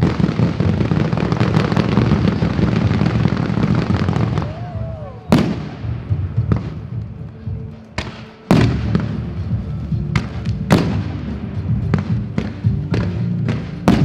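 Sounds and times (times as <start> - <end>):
fireworks bangs: 0.0 - 14.0
rumbling echo: 0.0 - 14.0.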